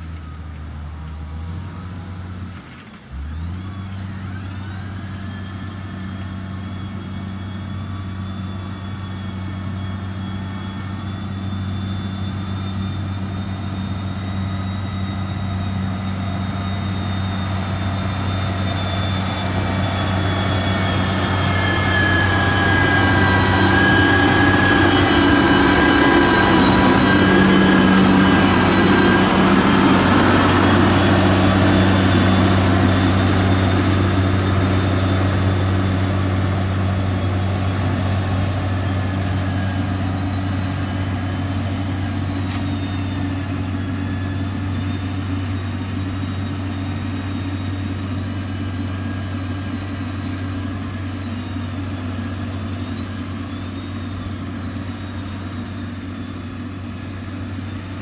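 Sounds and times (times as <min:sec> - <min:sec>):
heavy diesel engine running: 0:00.0 - 0:58.0
high whine: 0:04.6 - 0:58.0.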